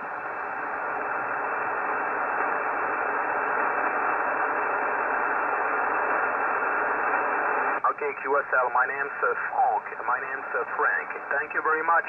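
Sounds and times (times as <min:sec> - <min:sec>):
shortwave radio hiss: 0:00.0 - 0:12.0.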